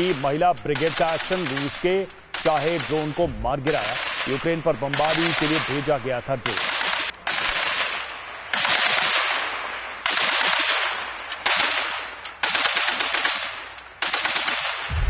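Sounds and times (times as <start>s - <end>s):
machine gun bursts: 0.0s - 14.9s.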